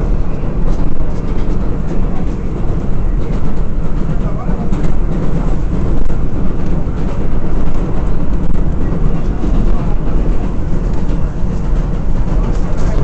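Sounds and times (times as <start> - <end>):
faint rail clacks: 0.0 - 13.0
subway train wheels rumbling: 0.0 - 13.0.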